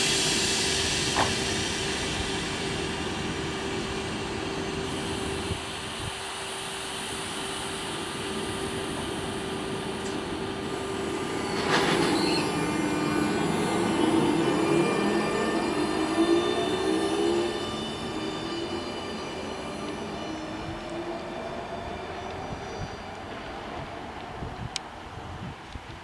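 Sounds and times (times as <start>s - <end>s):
train wheel squeal: 0.0s - 24.7s
rising whine: 0.0s - 24.8s
electric train rumble and hum: 0.0s - 26.0s.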